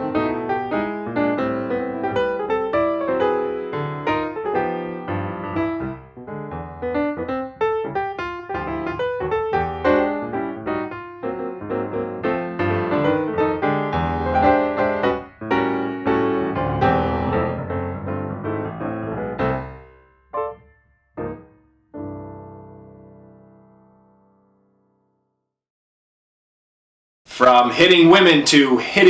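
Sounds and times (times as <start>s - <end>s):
piano music: 0.0s - 24.9s, 27.3s - 29.0s.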